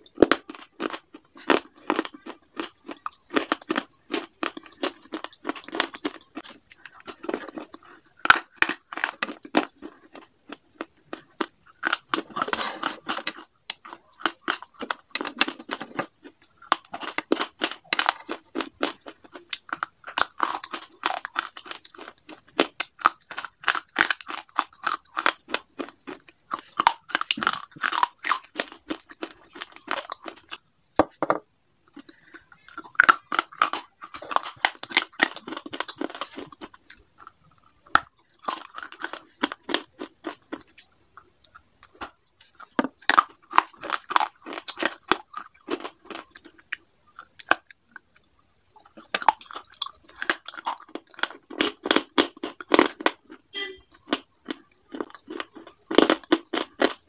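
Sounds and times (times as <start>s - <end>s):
chewing sharp crunches: 0.0s - 30.6s, 31.9s - 57.0s.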